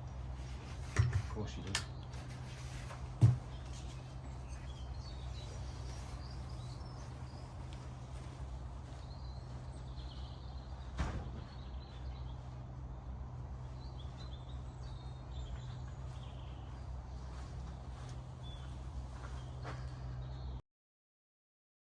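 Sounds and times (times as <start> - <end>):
low outdoor background hum: 0.0 - 20.6
faint birds chirping: 0.1 - 20.6.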